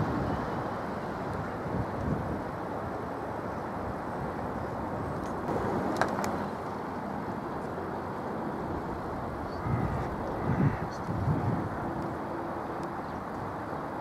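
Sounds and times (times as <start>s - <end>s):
distant vehicles rumbling: 0.0s - 14.0s.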